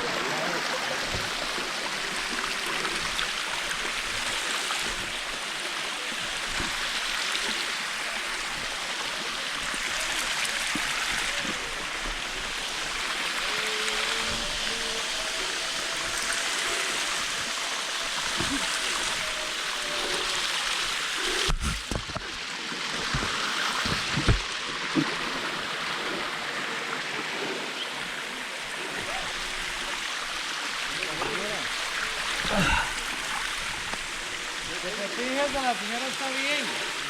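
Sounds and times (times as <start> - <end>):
rushing mountain stream and waterfall: 0.0 - 37.0.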